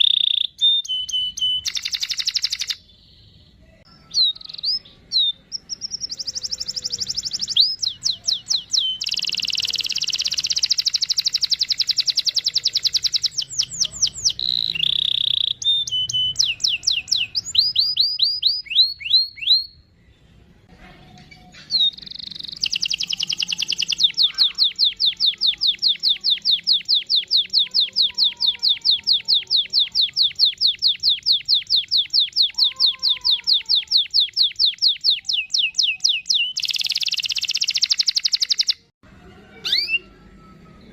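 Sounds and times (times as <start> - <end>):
canary singing trills: 0.0 - 20.2, 21.4 - 38.9, 39.5 - 40.9.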